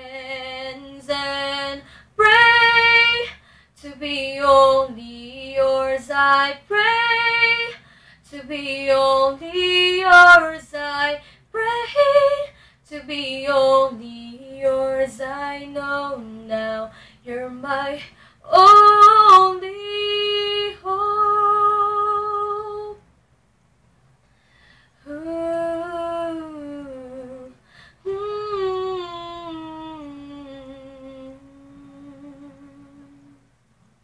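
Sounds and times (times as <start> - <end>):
woman singing wordless notes: 0.0 - 23.0, 25.0 - 33.5.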